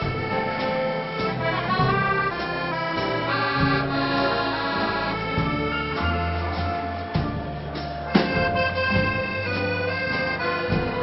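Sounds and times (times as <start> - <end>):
accordion melody: 0.0 - 11.0
dance band playing: 0.0 - 11.0.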